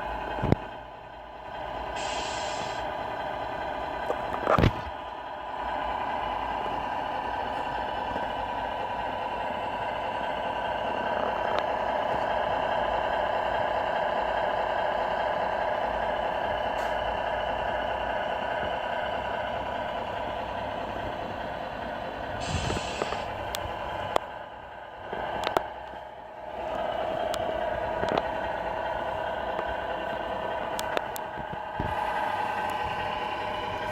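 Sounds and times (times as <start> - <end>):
model truck motor humming: 0.0 - 33.9.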